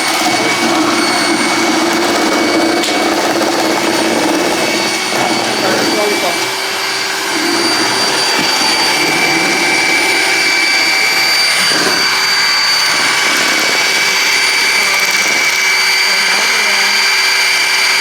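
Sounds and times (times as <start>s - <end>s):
electric motor whirring: 0.0s - 18.0s.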